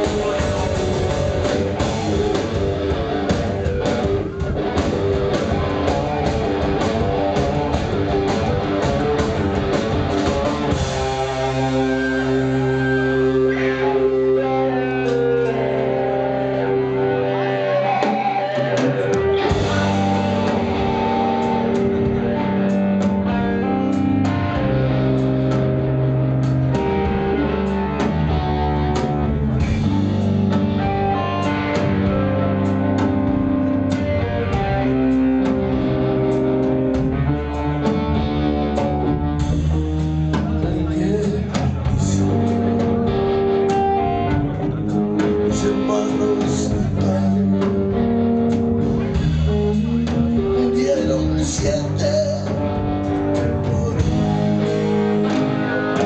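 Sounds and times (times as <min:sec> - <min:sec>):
electric guitars: 0:00.0 - 0:56.0
live rock band playing: 0:00.0 - 0:56.0.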